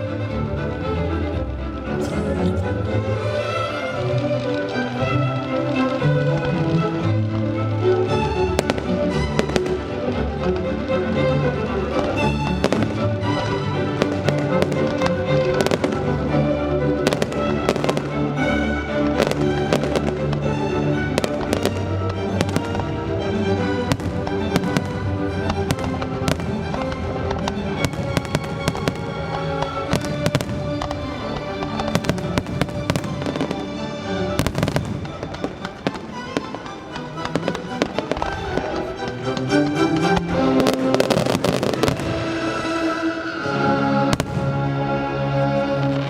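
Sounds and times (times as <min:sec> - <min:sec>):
music with sustained notes: 0:00.0 - 0:46.0
firework bangs and crackles: 0:03.0 - 0:46.0.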